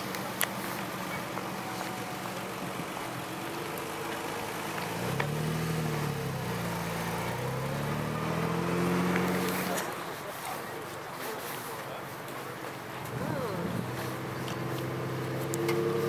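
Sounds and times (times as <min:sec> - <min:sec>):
car engine revving: 0:00.0 - 0:10.3, 0:12.8 - 0:16.0.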